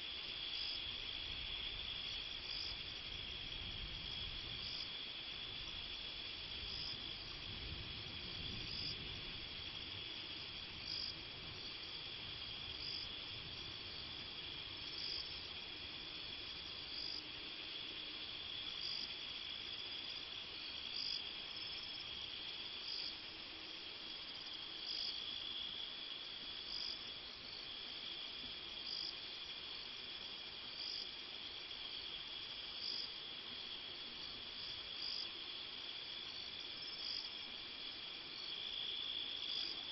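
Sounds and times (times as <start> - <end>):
cricket trill: 0.0 - 39.9.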